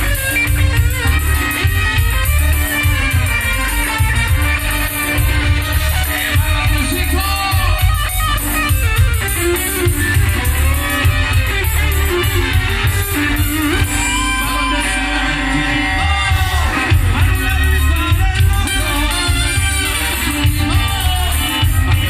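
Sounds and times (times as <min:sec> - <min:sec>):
drum kit steady beat: 0:00.0 - 0:22.0
electric guitar: 0:00.0 - 0:22.0
horns: 0:00.0 - 0:22.0
live band playing: 0:00.0 - 0:22.0.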